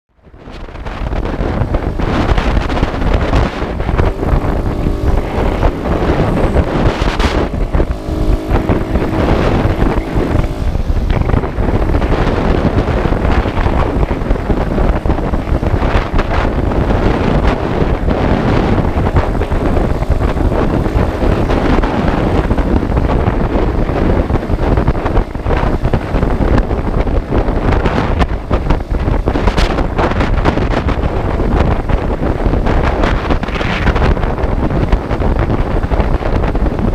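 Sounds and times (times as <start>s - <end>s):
engine and road noise: 0.1s - 36.9s
wind buffeting microphone: 0.1s - 36.9s.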